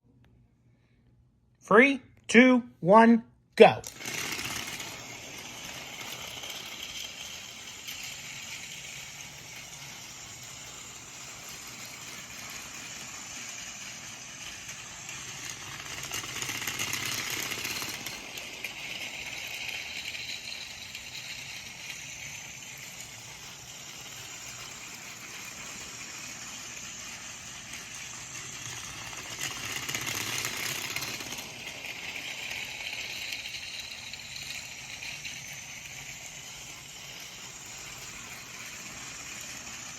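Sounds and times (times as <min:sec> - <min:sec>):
toy train motor whirring: 0:03.7 - 0:39.9
plastic wheels rattling on track: 0:03.8 - 0:39.9.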